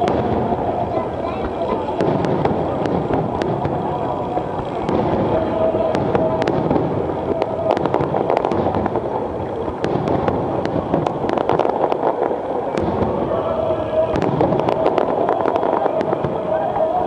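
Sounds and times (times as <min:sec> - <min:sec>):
firework crackles and pops: 0:00.0 - 0:17.0
fireworks bursting: 0:00.0 - 0:17.0.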